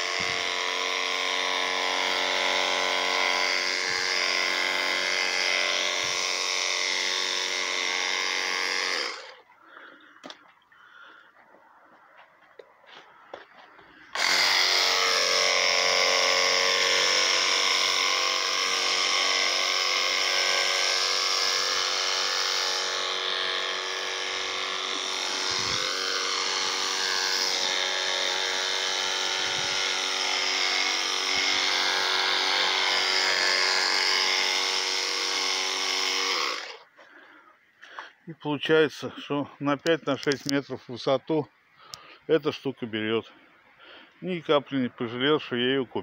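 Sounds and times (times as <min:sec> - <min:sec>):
pressure washer pump whining: 0:00.0 - 0:11.3, 0:12.0 - 0:38.0.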